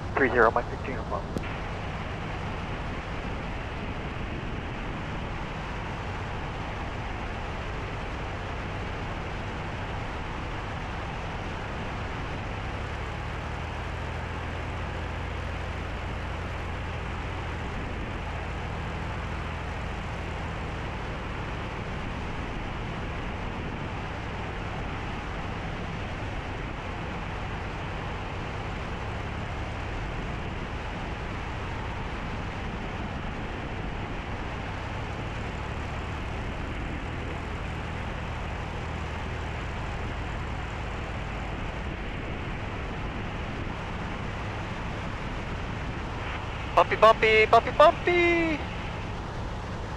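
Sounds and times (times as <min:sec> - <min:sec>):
propeller plane engine droning: 0:00.0 - 0:49.9.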